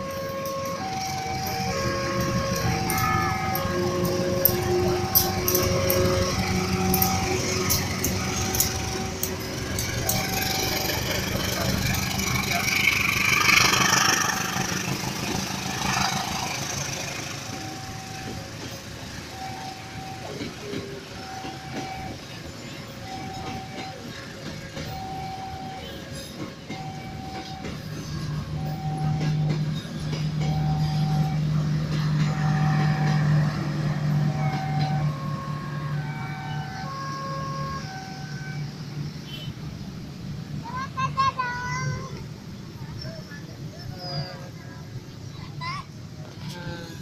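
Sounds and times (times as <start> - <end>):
train wheels rumbling on track: 0.0 - 47.0.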